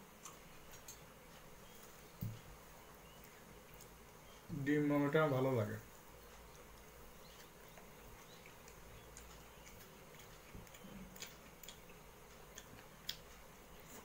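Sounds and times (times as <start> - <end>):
chewing and fingers on food: 0.1 - 2.5, 3.1 - 4.4, 6.1 - 14.0.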